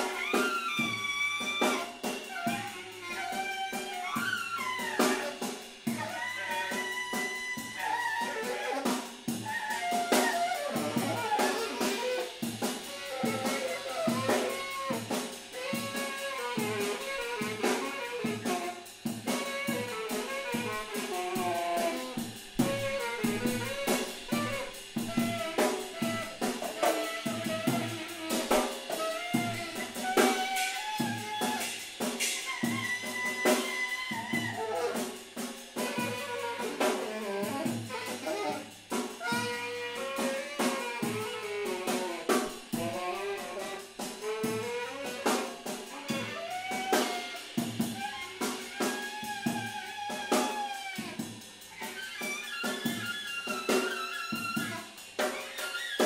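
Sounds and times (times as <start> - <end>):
sliding horn melody: 0.0 - 51.2, 51.8 - 56.0
busy drum kit: 0.0 - 56.0
jazz band playing: 0.0 - 56.0.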